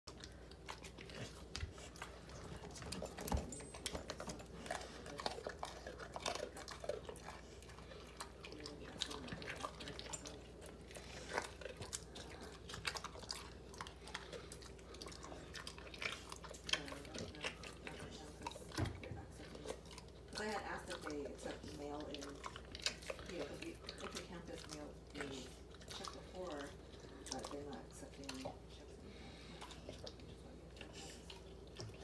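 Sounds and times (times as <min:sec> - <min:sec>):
dog crunching a cookie: 0:00.1 - 0:32.0.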